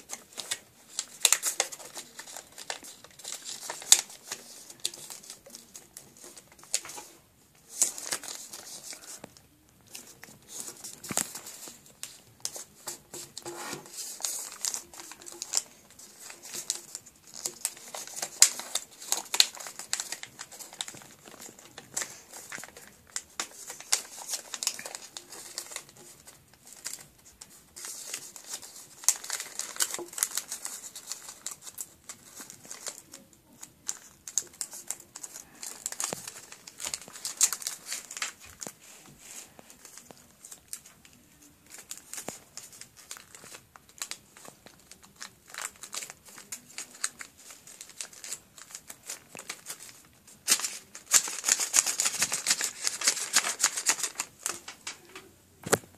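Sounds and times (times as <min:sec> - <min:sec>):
paper rustling and crinkling: 0:00.0 - 0:55.9
rapid papery clatter: 0:00.0 - 0:55.9.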